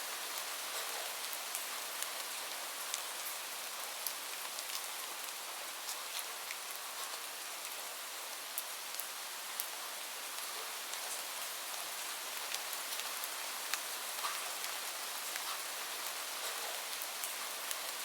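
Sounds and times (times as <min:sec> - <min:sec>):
gentle rain hissing: 0:00.0 - 0:18.0.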